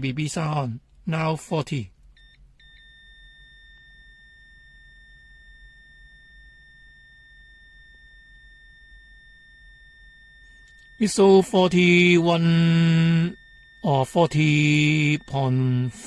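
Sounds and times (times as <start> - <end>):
multimeter continuity beep: 0.1 - 16.0.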